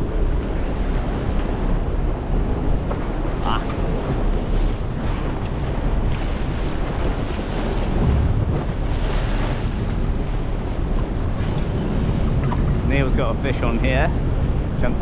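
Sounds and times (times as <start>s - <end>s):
sea water splashing along hull: 0.0s - 15.0s
wind buffeting microphone: 0.0s - 15.0s.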